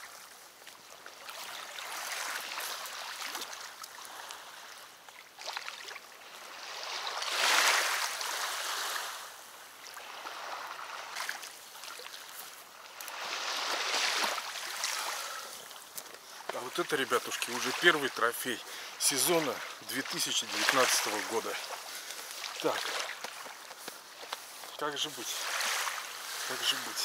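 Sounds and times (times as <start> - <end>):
water splashing at river's edge: 0.0 - 27.0.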